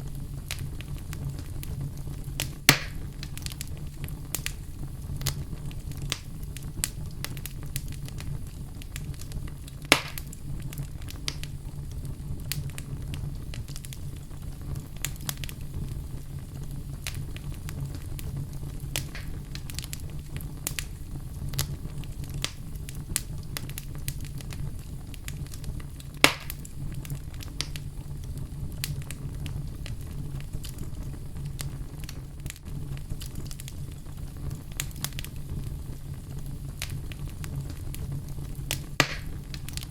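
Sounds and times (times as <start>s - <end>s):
fire crackling: 0.0s - 39.9s
fire rumbling: 0.0s - 39.9s
loud fire pops: 0.0s - 39.9s.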